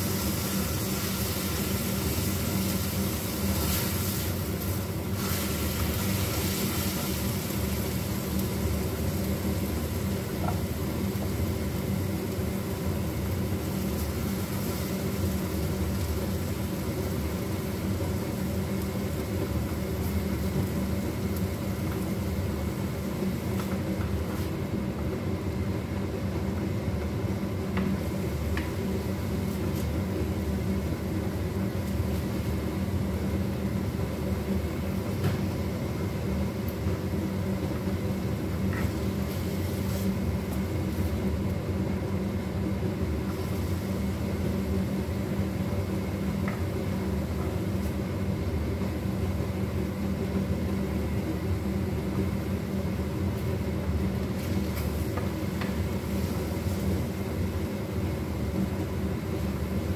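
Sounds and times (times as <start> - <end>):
range hood fan whirring: 0.0 - 59.9.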